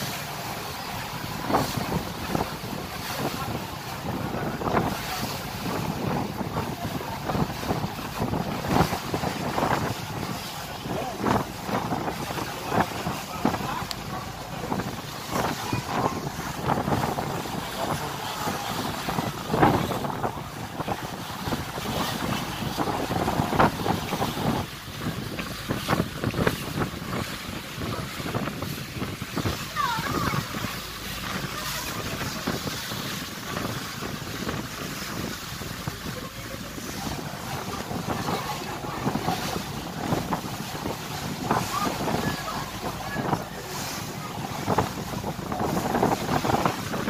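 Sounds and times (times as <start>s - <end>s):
water rushing along hull: 0.0s - 47.0s
wind buffeting microphone: 0.0s - 47.0s.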